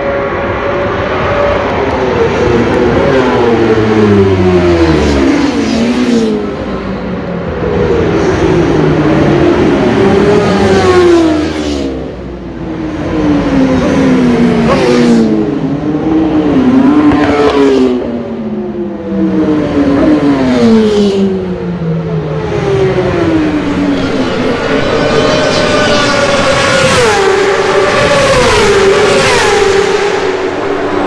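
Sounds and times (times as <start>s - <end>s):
racing motorcycles passing: 0.0s - 31.0s.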